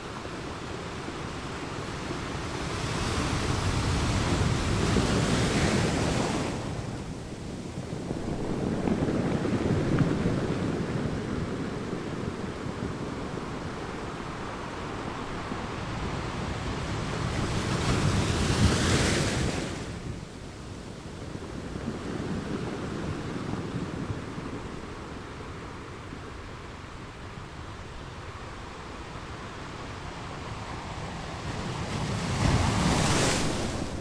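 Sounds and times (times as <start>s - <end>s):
ocean waves washing onto beach: 0.0s - 34.0s.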